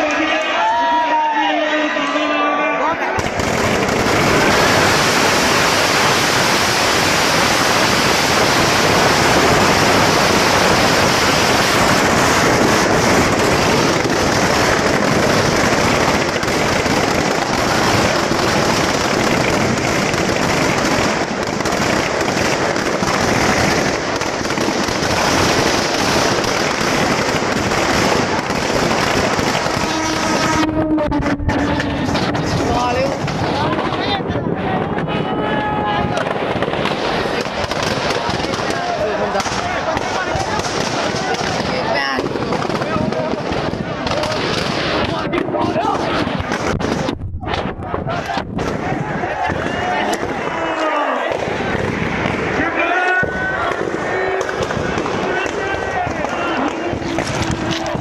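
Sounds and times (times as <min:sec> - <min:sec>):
firecrackers crackling: 0:03.0 - 0:58.0.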